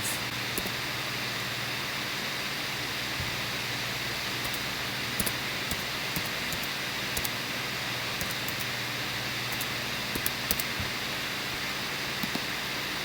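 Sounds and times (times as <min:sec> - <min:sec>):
steady hiss with low hum: 0:00.0 - 0:13.0.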